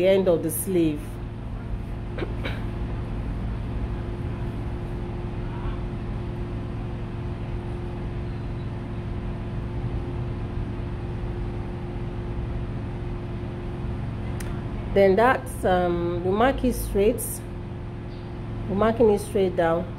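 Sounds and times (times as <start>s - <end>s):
mechanical droning hum: 0.0s - 19.9s.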